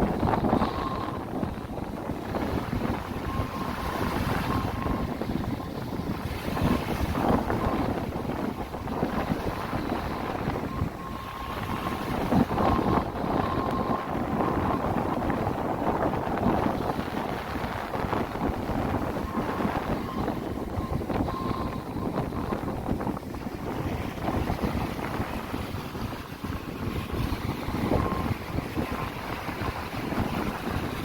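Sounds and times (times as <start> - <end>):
sea waves: 0.0 - 31.0
wind buffeting microphone: 0.0 - 31.0.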